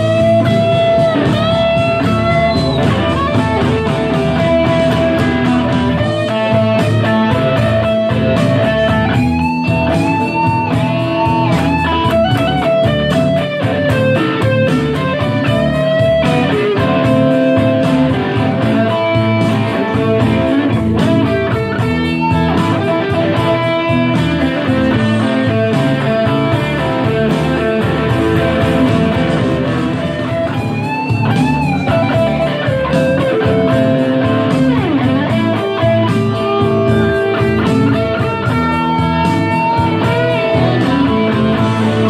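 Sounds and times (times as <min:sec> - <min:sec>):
electric guitar lead with bent notes: 0:00.0 - 0:42.0
live rock blues band: 0:00.0 - 0:42.0.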